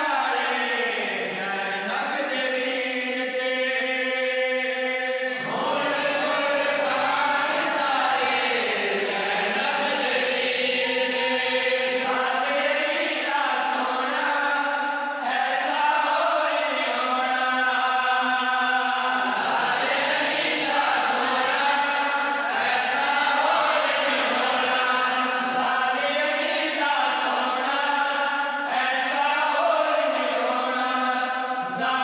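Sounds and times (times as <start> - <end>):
men chanting together: 0.0 - 32.0.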